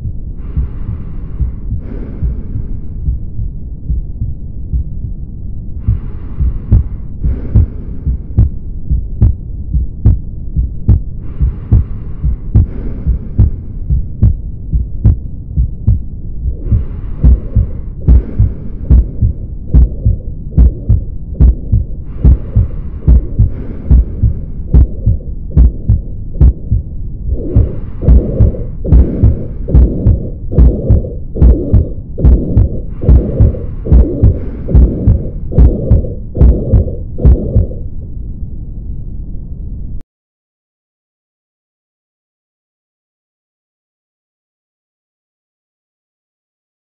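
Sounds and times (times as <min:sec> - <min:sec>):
heartbeat thumping: 0:00.0 - 0:37.9.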